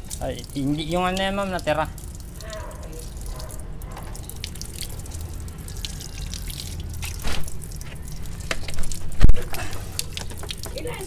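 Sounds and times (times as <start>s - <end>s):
water dripping on concrete: 0.0s - 11.0s.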